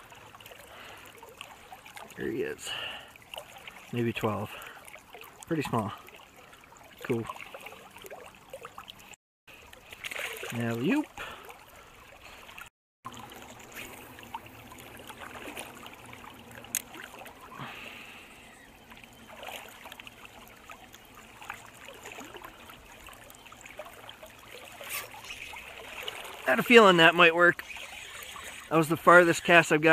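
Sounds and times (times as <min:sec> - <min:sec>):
river water rippling: 0:00.0 - 0:29.9.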